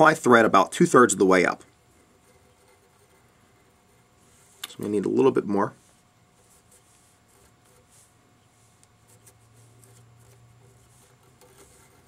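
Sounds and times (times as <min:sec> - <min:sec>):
soft rubbing and small ticks: 0:01.3 - 0:12.0.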